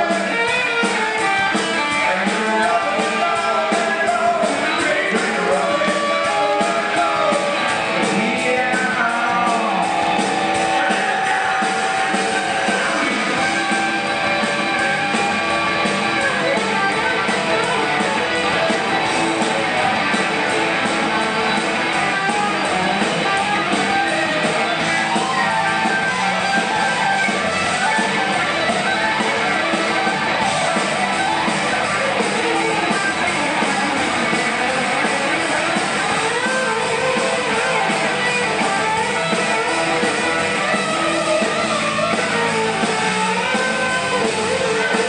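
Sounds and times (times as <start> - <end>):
electric guitar: 0.0 - 45.0
live rock band playing: 0.0 - 45.0.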